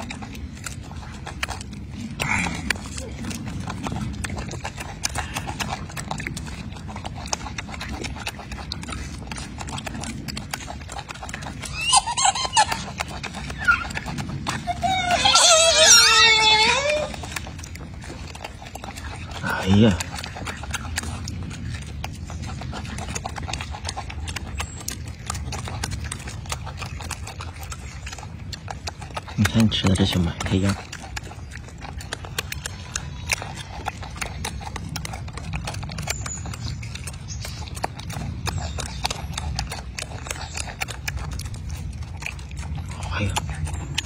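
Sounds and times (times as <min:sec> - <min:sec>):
low steady rumble: 0:00.0 - 0:44.0
monkey chewing fruit: 0:00.0 - 0:44.0.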